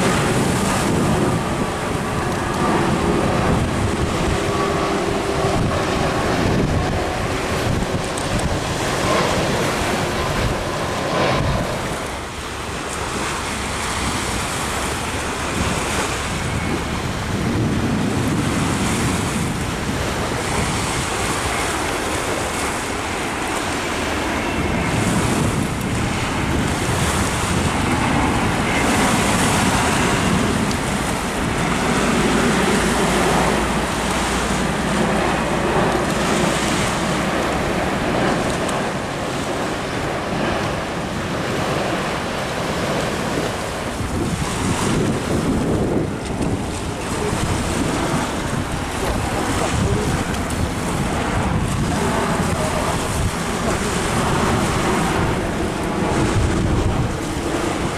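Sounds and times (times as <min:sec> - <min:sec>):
waves washing on beach: 0:00.0 - 0:57.9
wind gusting on microphone: 0:00.0 - 0:57.9.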